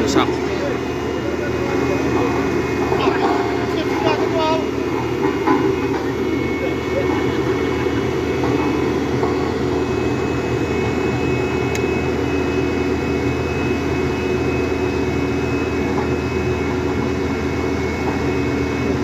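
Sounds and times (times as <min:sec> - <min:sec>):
road roller engine running: 0:00.0 - 0:19.0.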